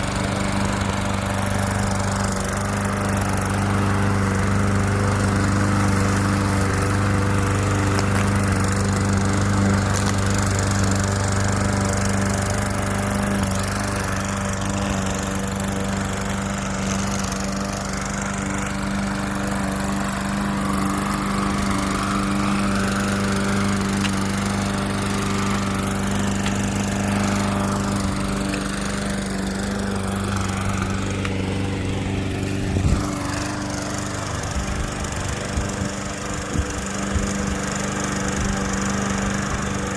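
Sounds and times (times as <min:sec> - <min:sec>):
lawn mower cutting grass: 0:00.0 - 0:39.9.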